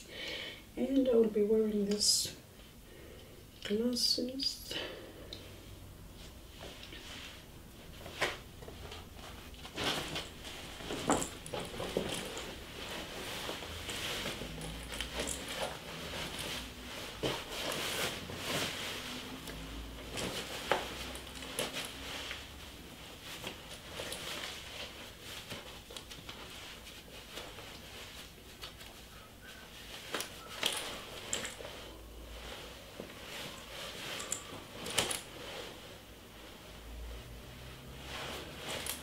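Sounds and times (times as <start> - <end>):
low room hum: 0.0 - 39.0
denim jacket rustling: 6.1 - 39.0.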